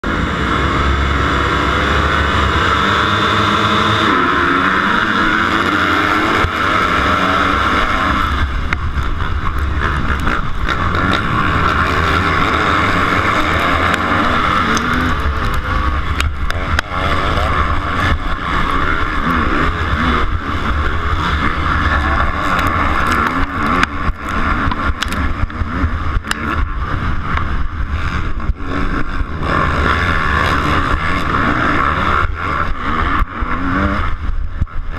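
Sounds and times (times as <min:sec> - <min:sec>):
motocross bike engines revving: 0:00.0 - 0:34.9
wind on microphone: 0:06.1 - 0:34.9.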